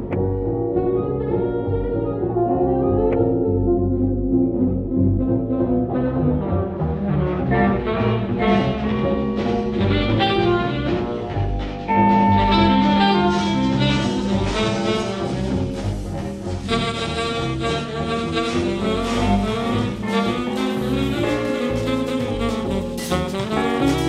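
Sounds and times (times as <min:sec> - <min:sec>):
jazz band music: 0:00.8 - 0:24.0.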